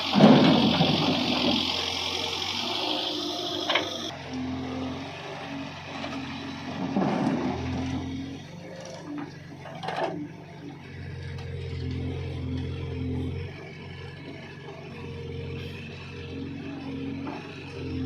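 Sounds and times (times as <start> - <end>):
heavy machinery diesel engine: 0.0 - 18.0.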